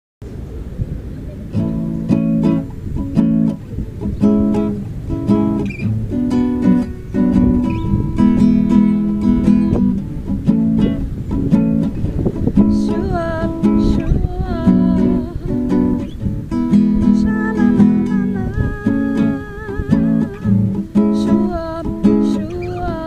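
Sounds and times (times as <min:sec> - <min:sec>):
acoustic guitar strumming reggae chords: 0:01.5 - 0:23.0.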